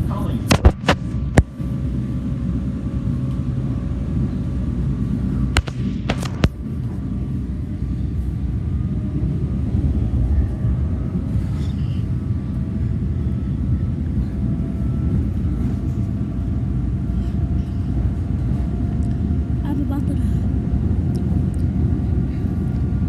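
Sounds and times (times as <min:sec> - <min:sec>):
train rumbling from inside: 0:00.0 - 0:23.0.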